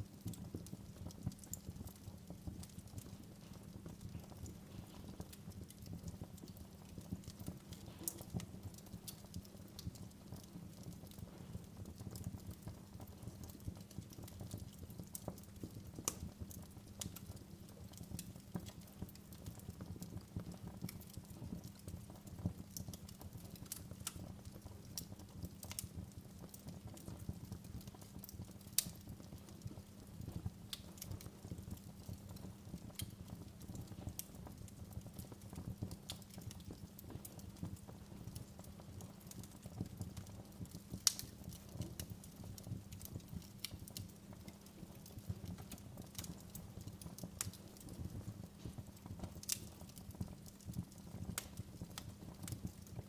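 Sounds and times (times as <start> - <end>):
low rumble of burning fire: 0.0 - 53.0
wood fire pops and crackles: 0.0 - 53.0.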